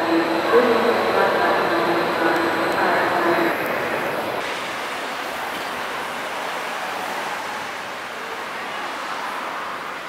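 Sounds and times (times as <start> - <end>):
railway station hall ambience: 0.0 - 10.0.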